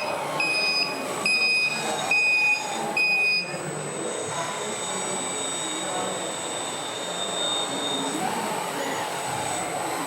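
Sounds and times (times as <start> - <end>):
reversing alarm beeping: 0.0 - 8.2.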